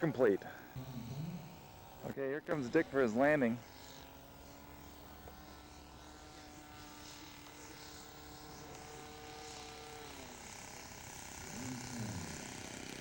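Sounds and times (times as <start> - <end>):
model airplane engine buzz: 0.0 - 13.0.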